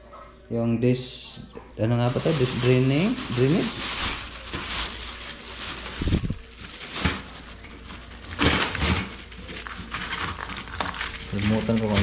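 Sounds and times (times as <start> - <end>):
plastic wrapping crinkling: 2.0 - 12.0.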